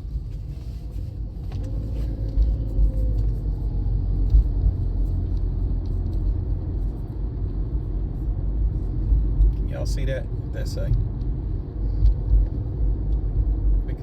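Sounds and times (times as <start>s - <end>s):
car rumbling in motion: 0.0s - 14.0s.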